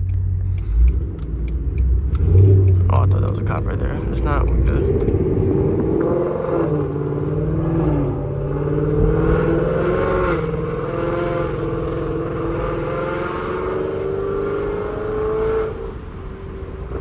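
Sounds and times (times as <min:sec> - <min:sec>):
car engine revving loudly: 0:00.4 - 0:17.0.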